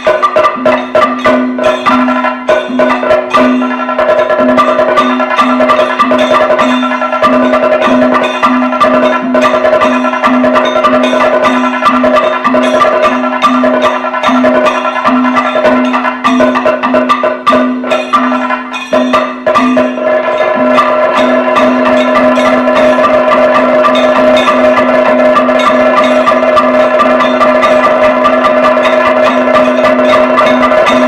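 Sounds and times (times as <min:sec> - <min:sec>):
drumming in dense strokes: 0:00.0 - 0:31.0
ringing gong strikes: 0:00.0 - 0:31.0.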